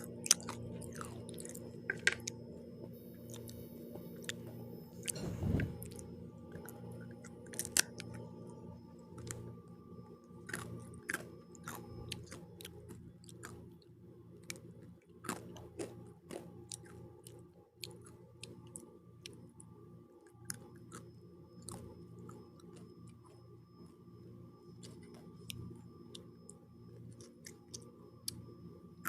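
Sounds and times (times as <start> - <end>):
chewing crunchy crust: 0.0 - 2.4, 3.2 - 9.6, 10.2 - 24.1, 24.7 - 28.5.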